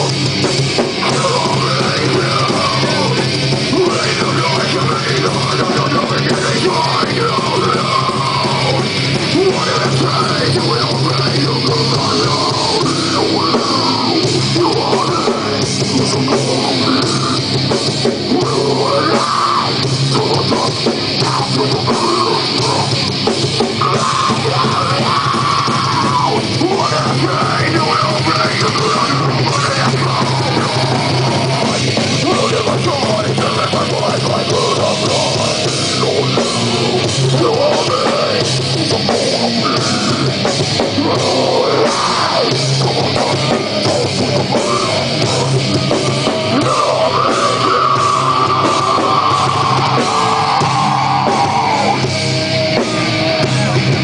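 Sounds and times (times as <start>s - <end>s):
distorted electric guitar: 0.0s - 54.0s
drum kit with cymbals: 0.0s - 54.0s.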